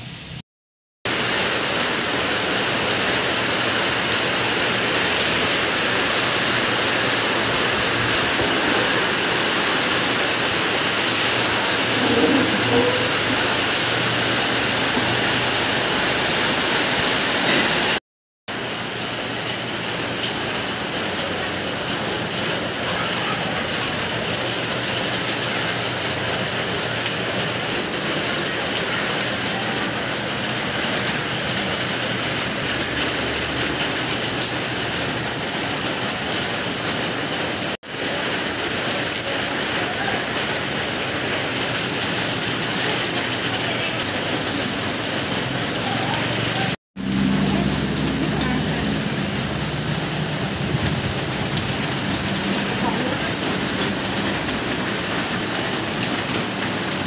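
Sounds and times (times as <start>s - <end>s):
steady rain hiss: 1.1s - 57.0s.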